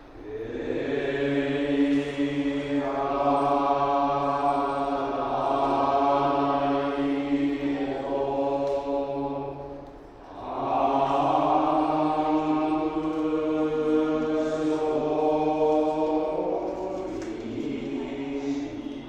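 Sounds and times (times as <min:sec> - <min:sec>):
men chanting a long note: 0:00.2 - 0:19.0.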